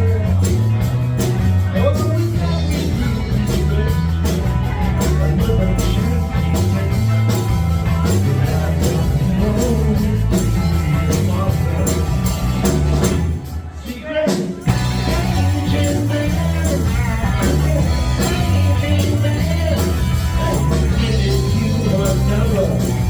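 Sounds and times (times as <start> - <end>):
live rock band playing: 0.0 - 23.0
steady drum beat: 0.0 - 23.0.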